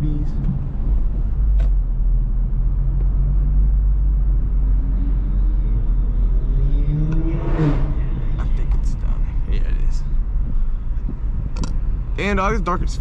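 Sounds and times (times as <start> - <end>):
engine and road rumble in car: 0.0 - 13.0.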